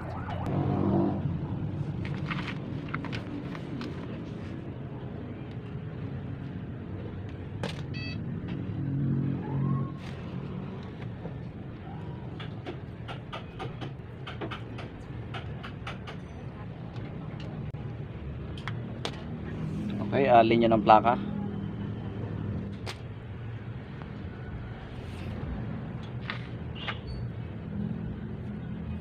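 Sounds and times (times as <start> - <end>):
road vehicles rumbling past: 0.0 - 29.0.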